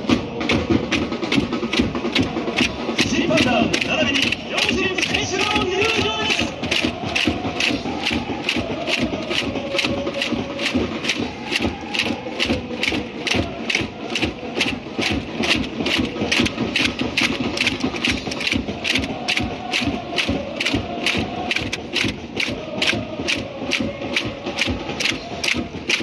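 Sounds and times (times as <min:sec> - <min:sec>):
crowd chanting in unison: 0:00.0 - 0:26.0
steady drum beat: 0:00.0 - 0:26.0.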